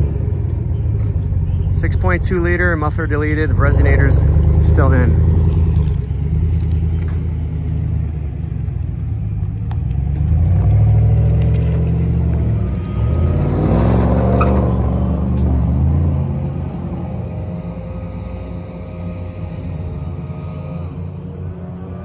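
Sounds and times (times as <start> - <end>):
truck exhaust rumbling: 0.0 - 22.0.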